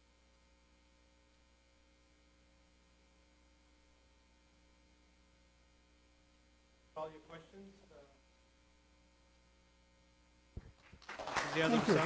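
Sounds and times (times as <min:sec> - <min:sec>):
faint electrical mains hum: 0:00.0 - 0:12.0.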